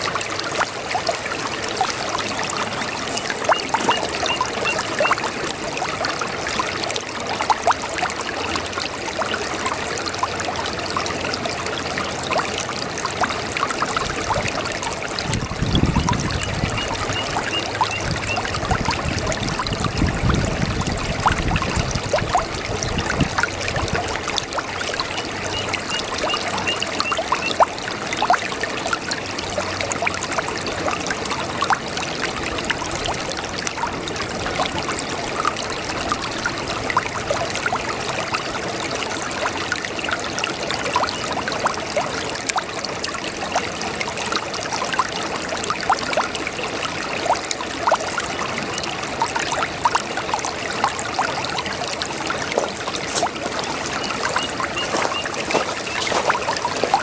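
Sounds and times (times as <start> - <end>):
brook water trickling: 0.0 - 57.0.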